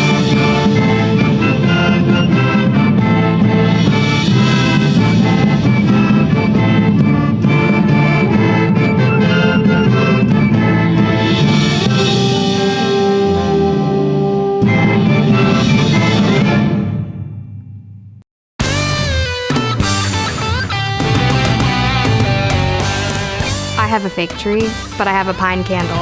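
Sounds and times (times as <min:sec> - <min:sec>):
instrumental ensemble music: 0:00.0 - 0:16.8, 0:18.6 - 0:26.0.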